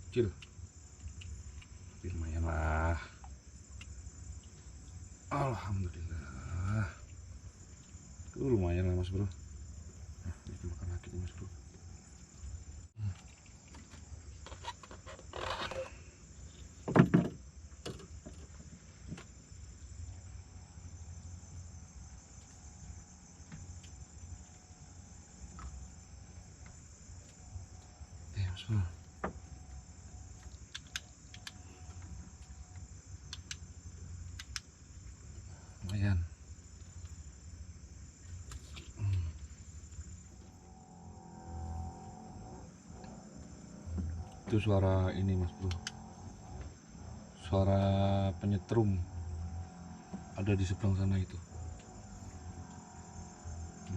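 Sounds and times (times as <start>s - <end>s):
crickets chirping: 0.0s - 53.9s
rustle: 0.0s - 53.9s.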